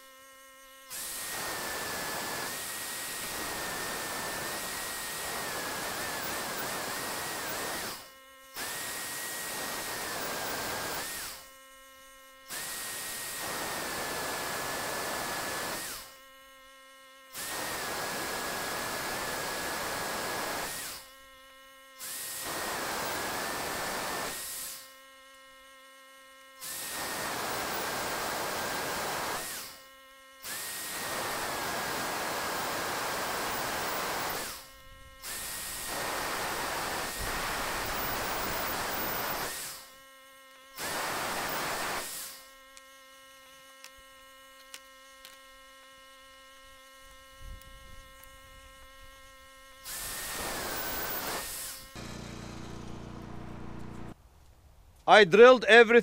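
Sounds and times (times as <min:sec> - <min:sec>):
electric drill boring through steel: 0:00.0 - 0:16.5, 0:17.3 - 0:25.2, 0:26.6 - 0:45.4, 0:47.9 - 0:54.2.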